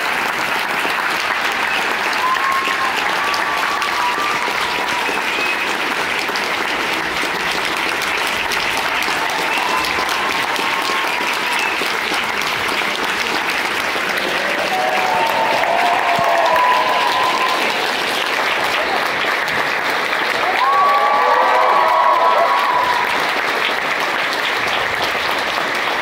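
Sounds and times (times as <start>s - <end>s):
audience clapping: 0.0s - 26.0s.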